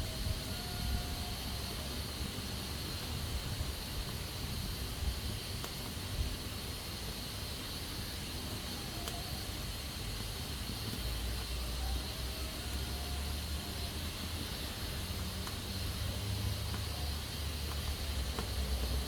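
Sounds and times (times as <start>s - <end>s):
pressure cooker hissing: 0.0s - 19.0s.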